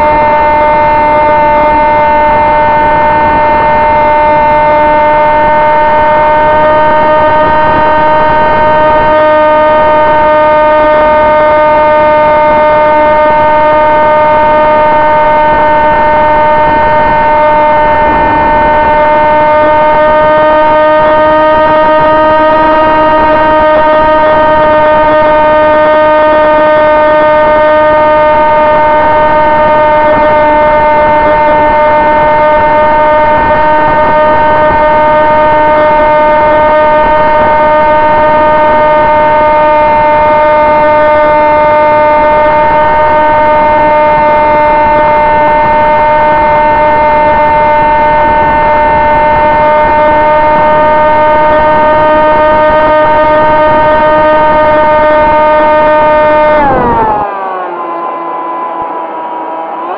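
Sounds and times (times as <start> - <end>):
electric motor and propeller droning: 0.0 - 59.9.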